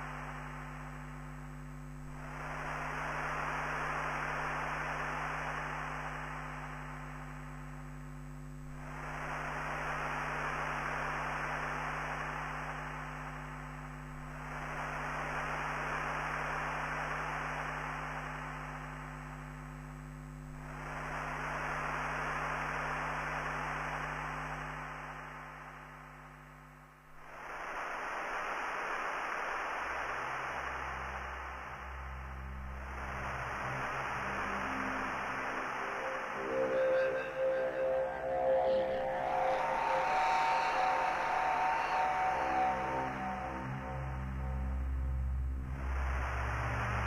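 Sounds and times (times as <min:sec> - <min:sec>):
low synthesizer drone: 0:00.0 - 0:27.3, 0:29.7 - 0:47.0
filtered white noise: 0:00.0 - 0:47.0.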